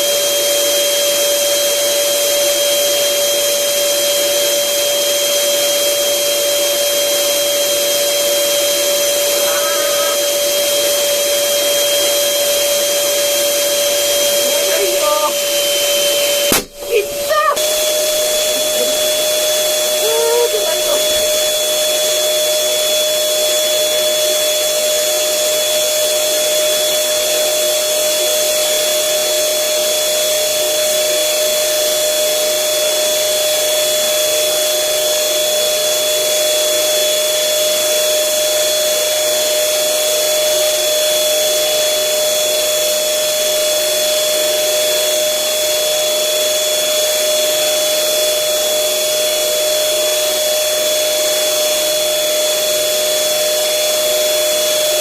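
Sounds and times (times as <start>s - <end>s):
electric air blower running: 0.0s - 55.0s.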